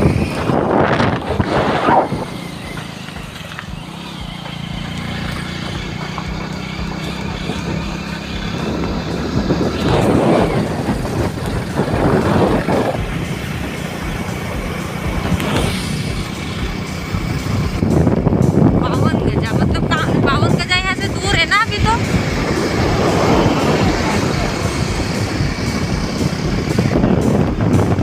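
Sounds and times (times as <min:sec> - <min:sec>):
loud rushing noise: 0:00.0 - 0:28.0
road and wind noise: 0:00.0 - 0:28.0
vehicle engine running: 0:00.0 - 0:28.0.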